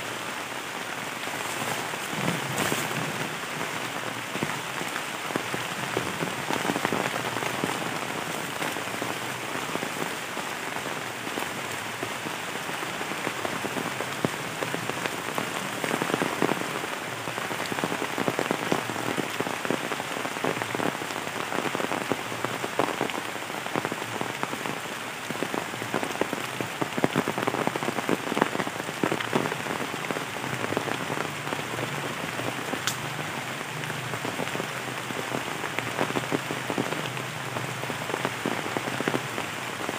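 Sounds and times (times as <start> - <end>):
heavy rain on trees: 0.0 - 39.9.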